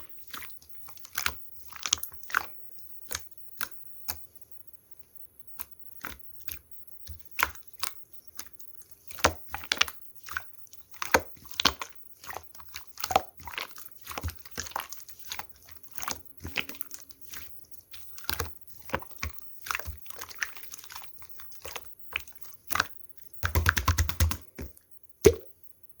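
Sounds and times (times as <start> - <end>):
hands squeezing slime: 0.0 - 4.3, 5.4 - 25.5.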